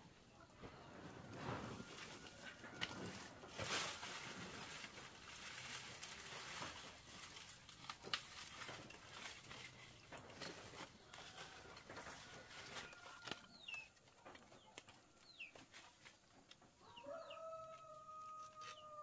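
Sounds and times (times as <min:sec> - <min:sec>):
rustling and crinkling handling: 0:00.0 - 0:19.0.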